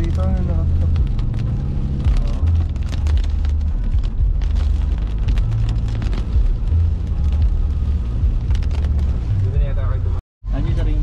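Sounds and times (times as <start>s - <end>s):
vehicle rumbling: 0.0s - 11.0s.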